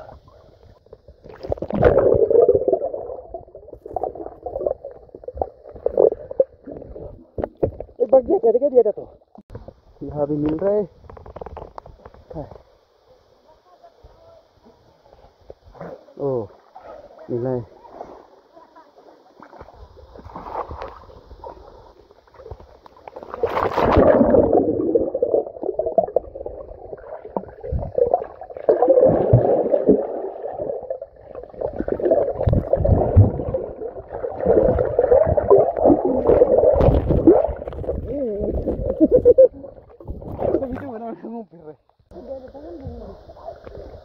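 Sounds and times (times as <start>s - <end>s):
underwater river gurgling: 0.0s - 8.4s, 15.7s - 41.0s, 42.1s - 44.0s.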